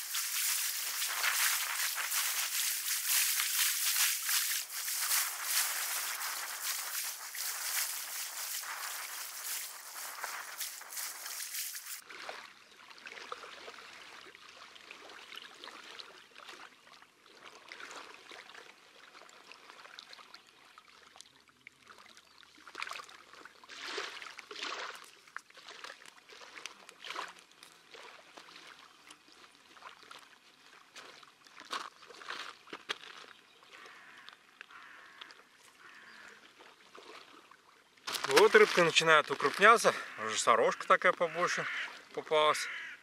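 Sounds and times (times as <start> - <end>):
water splashing and lapping: 0.0 - 43.0.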